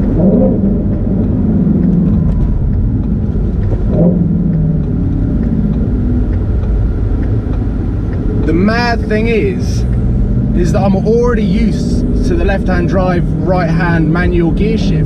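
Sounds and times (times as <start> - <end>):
car engine running while driving: 0.0 - 15.0.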